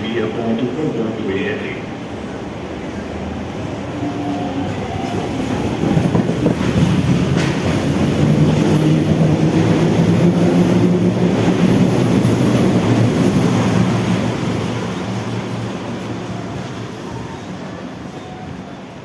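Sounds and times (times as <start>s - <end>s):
wheel and rail rumble: 0.0s - 19.0s.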